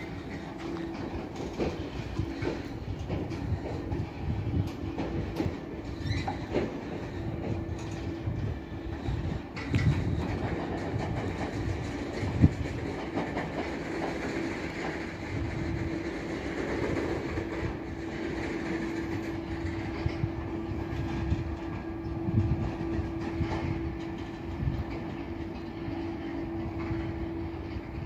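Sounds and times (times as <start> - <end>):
steady train rumble: 0.0 - 28.0
train wheels clattering over joints: 0.0 - 28.0.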